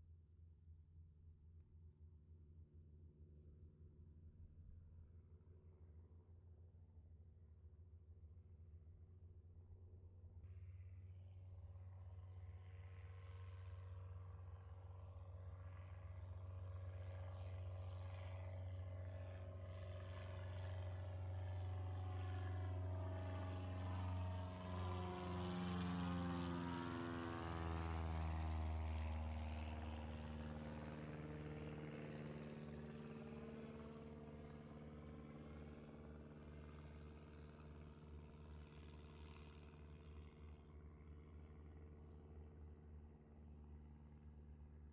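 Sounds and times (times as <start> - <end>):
propeller plane flying past: 1.6 - 44.9.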